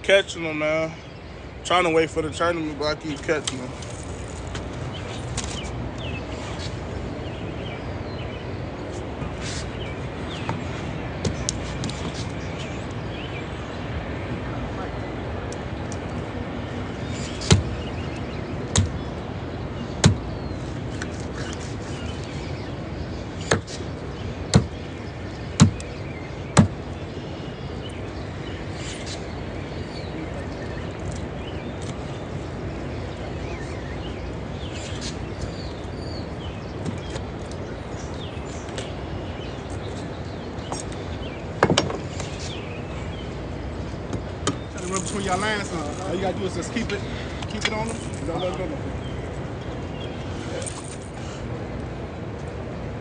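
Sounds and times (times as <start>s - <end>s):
outdoor background noise: 0.0s - 53.0s.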